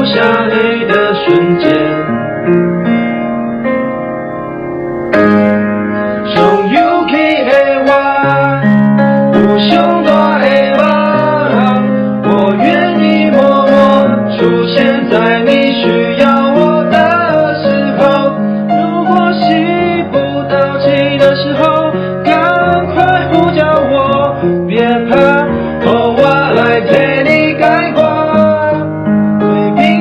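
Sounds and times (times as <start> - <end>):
keyboard sustained chords: 0.0 - 30.0
pitch-bending melody line: 0.0 - 30.0.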